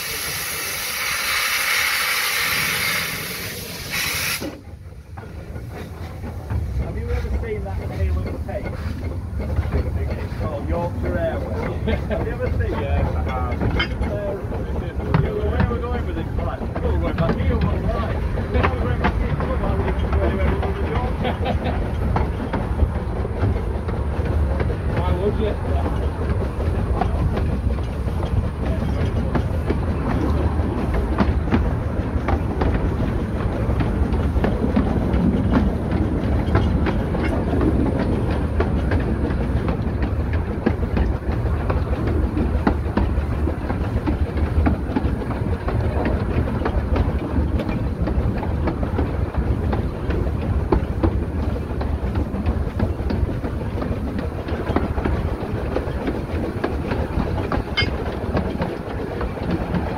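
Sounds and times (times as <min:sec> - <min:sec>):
train wheels rumbling on track: 0:00.0 - 0:59.9
wheels clicking over rail joints: 0:02.6 - 0:59.9.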